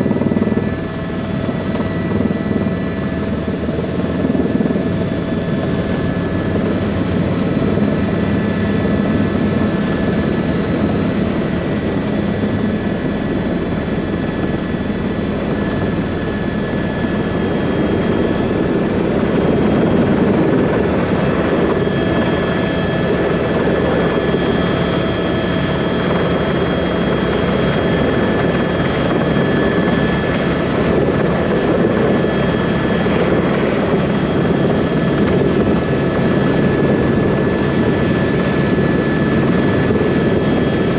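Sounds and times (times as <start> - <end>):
helicopter rotor noise: 0.0 - 40.9
turbine whine: 0.0 - 40.9.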